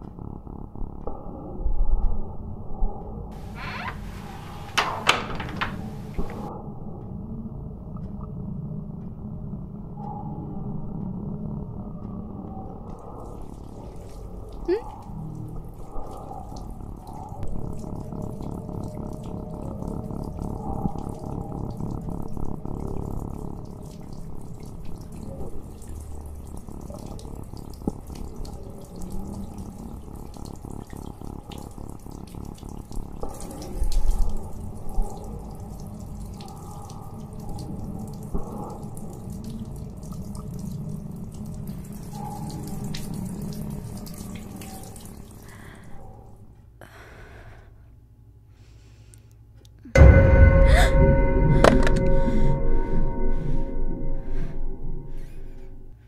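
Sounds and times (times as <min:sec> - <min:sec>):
muffled running water: 0:00.0 - 0:47.6.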